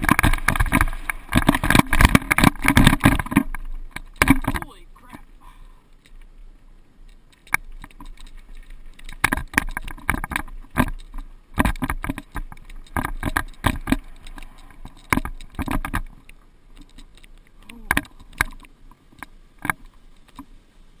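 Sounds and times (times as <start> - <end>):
mountain bike clattering on dirt trail: 0.0 - 5.2, 7.0 - 20.5.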